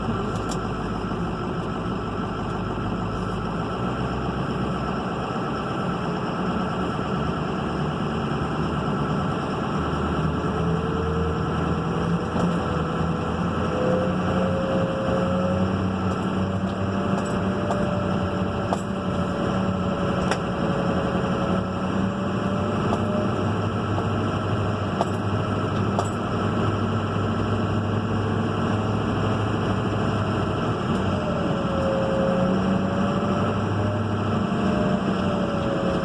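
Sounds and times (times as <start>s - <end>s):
turbocharged engine running: 0.0s - 36.0s.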